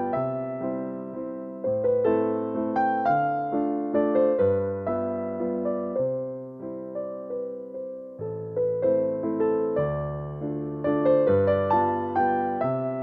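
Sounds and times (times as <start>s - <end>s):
soft electric piano melody: 0.0s - 13.0s.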